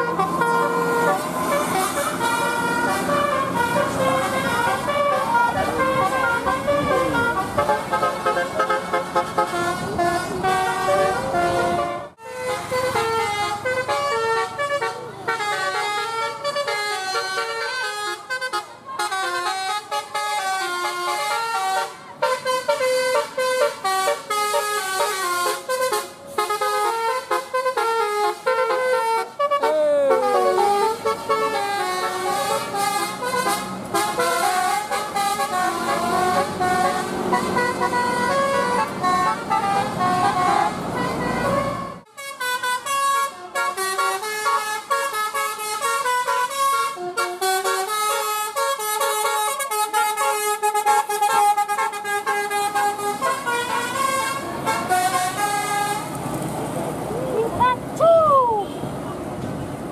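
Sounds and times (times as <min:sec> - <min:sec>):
multi-tone bus horn melody: 0:00.0 - 0:56.8.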